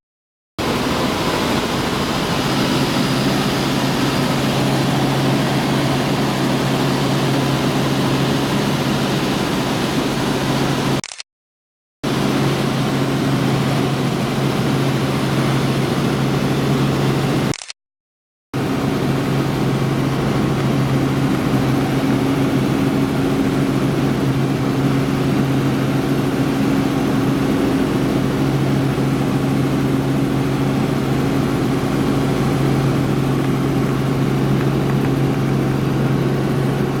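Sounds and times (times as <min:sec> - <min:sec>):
helicopter engine and rotor drone: 0:00.6 - 0:11.2, 0:12.0 - 0:17.8, 0:18.6 - 0:37.0.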